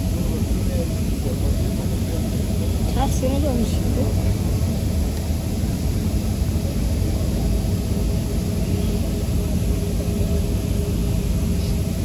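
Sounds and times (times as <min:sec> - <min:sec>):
airliner cabin engine rumble: 0:00.0 - 0:12.0
faint steady hum tones: 0:00.0 - 0:12.0.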